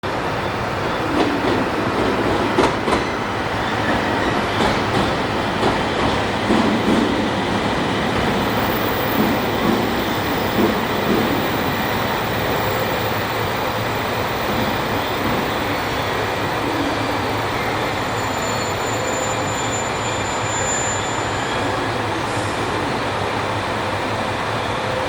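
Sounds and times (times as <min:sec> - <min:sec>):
electric train rolling: 0:00.1 - 0:25.0.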